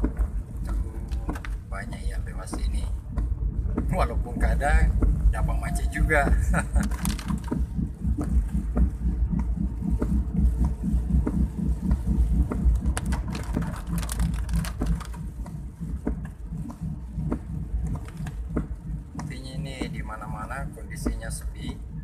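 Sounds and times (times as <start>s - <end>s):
rain drops ticking on car: 0.0s - 22.0s
road and engine rumble: 0.0s - 22.0s.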